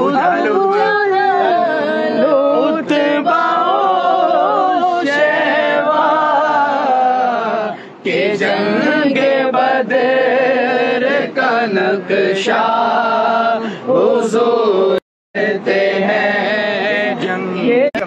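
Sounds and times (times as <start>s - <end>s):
men chanting together: 0.0s - 17.8s.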